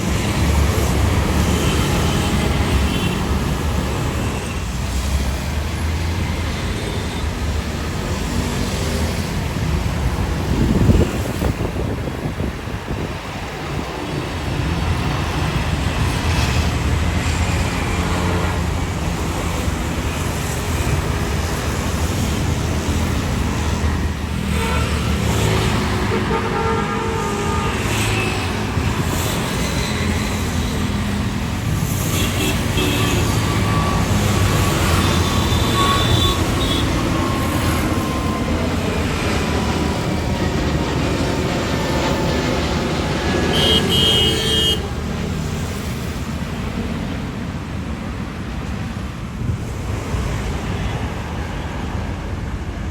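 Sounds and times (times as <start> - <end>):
jet airliner engines: 0.0 - 52.9
road traffic: 0.0 - 52.9.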